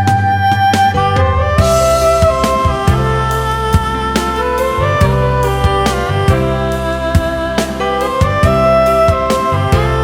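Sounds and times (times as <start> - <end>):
melodic music over steady beat: 0.0 - 10.0.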